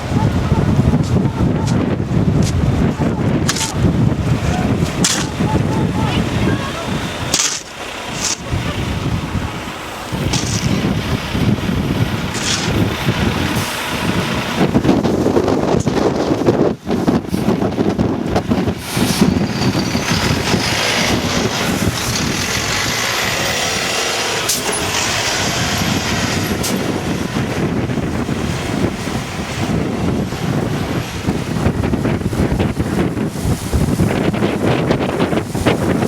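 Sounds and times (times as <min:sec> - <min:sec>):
motor vehicle running: 0:00.0 - 0:36.0
steady rush of noise: 0:00.0 - 0:36.0.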